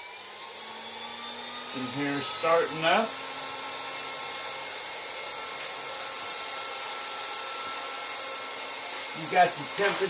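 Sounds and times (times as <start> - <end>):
air compressor whirring hum: 0.0 - 10.0.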